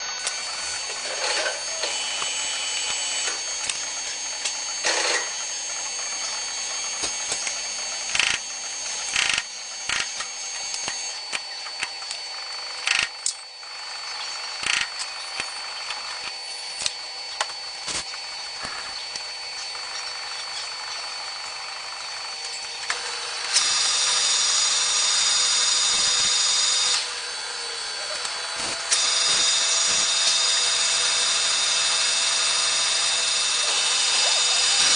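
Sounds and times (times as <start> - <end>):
high whining tones: 0.0 - 34.9.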